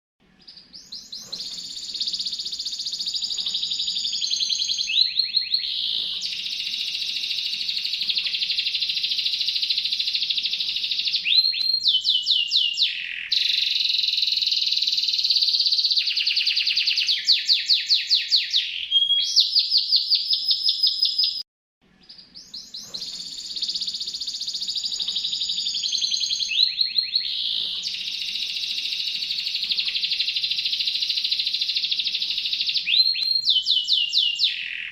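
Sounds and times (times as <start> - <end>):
canary singing trills: 0.4 - 21.4, 22.0 - 34.9.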